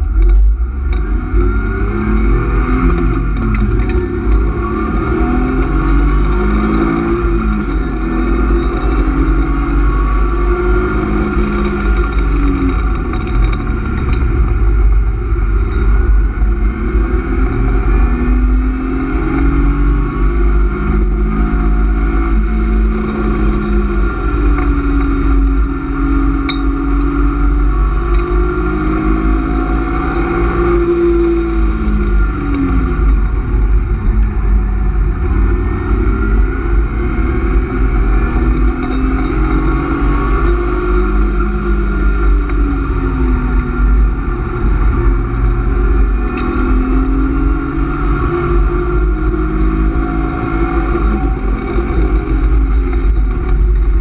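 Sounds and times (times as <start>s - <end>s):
car engine revving: 0.0s - 54.0s
low road rumble: 0.0s - 54.0s.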